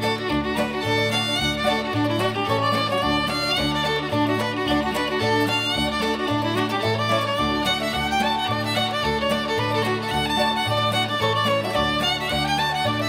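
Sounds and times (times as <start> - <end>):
fiddle music with bass line: 0.0 - 13.0.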